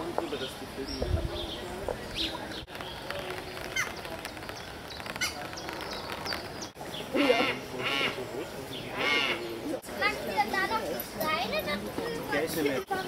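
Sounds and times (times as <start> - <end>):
low background murmur: 0.0 - 13.0.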